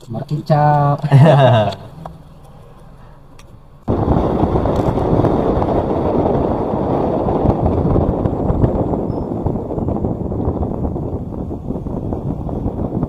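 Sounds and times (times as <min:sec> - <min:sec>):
vehicle rumbling over rough track: 0:00.3 - 0:13.0
wind buffeting microphone: 0:01.8 - 0:13.0.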